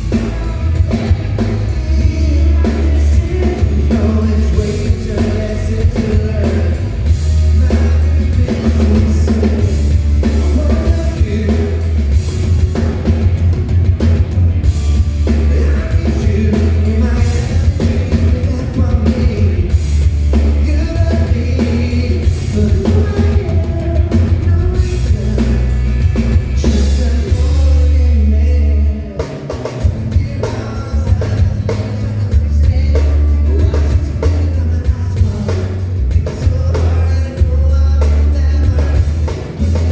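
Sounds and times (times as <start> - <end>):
lead vocal singing: 0.0 - 13.3, 14.9 - 39.9
live pop-rock band: 0.0 - 39.9.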